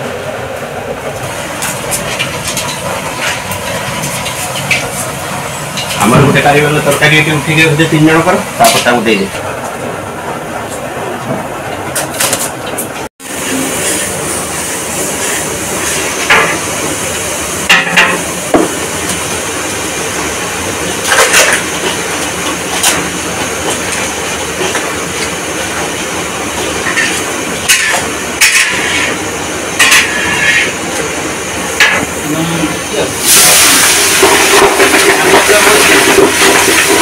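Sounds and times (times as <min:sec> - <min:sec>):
gas burner rushing: 0:00.0 - 0:37.0.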